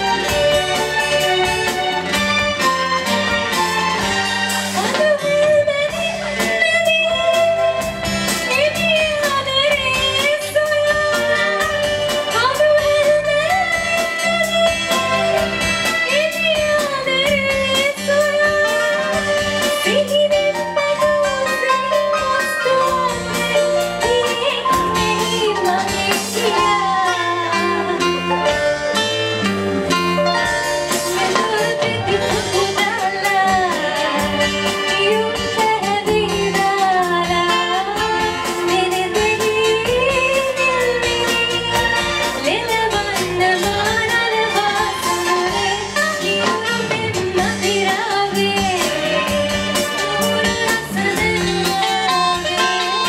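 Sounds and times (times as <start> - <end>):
live band playing: 0.0 - 53.0
woman singing into microphone: 3.0 - 29.1, 29.9 - 53.0.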